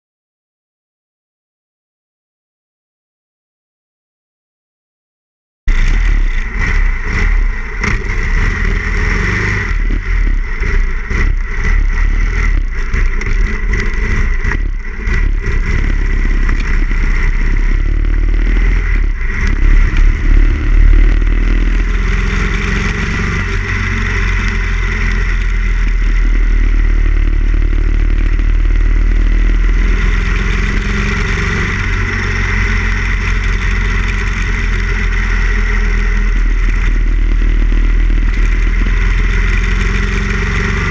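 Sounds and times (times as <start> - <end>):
motorcycle engine riding: 5.7 - 40.9.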